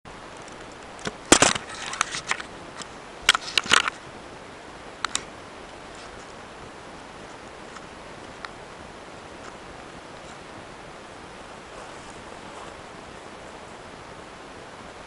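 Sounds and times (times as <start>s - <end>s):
faint steady hiss: 0.1s - 15.0s.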